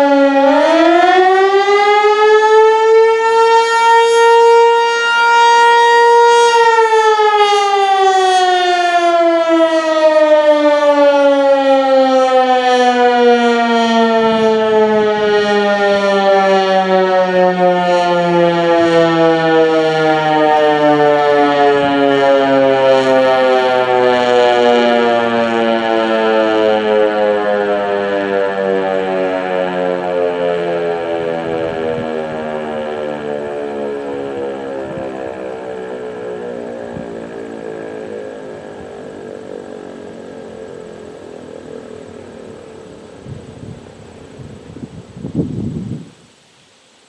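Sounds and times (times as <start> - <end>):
warning siren winding down: 0.0 - 44.2.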